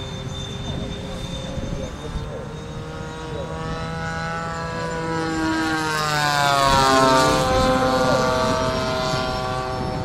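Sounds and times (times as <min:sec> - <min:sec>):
model jet fans whining: 0:00.0 - 0:10.0.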